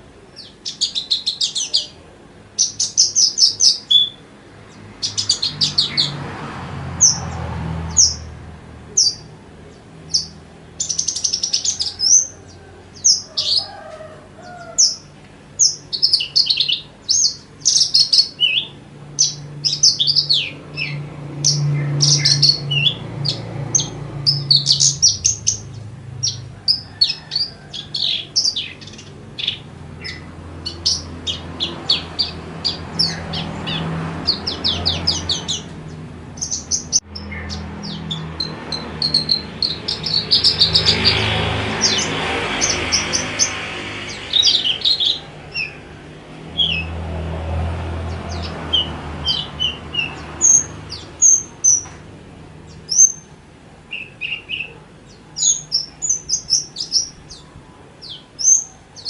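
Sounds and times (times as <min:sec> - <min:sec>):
bird singing chirps and trills: 0:00.0 - 0:52.0, 0:52.6 - 0:59.0.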